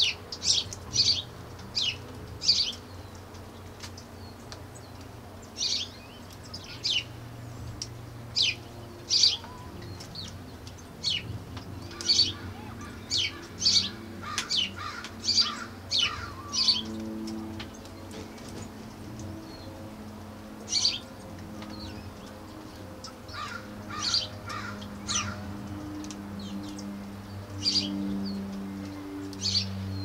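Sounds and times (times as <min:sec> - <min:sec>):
small birds chirping: 0:00.0 - 0:19.8, 0:20.6 - 0:30.0.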